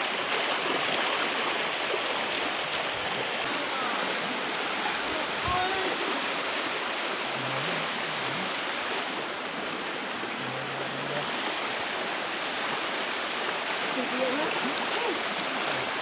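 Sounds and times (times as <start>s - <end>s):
creek water flowing over rocks: 0.0s - 16.0s.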